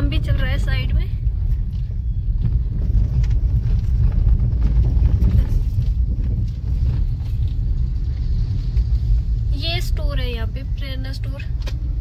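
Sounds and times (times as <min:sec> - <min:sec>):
low rumble of street noise: 0:00.0 - 0:12.0.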